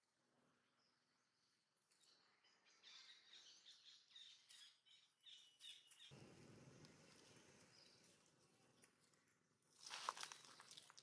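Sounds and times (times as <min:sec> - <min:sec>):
faint birds chirping: 0:00.1 - 0:09.5.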